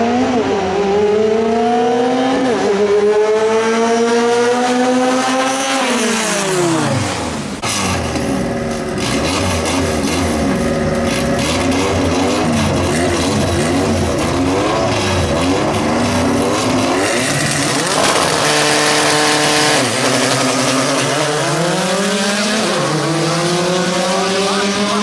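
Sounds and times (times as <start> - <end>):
car engines revving hard: 0.0 - 25.0.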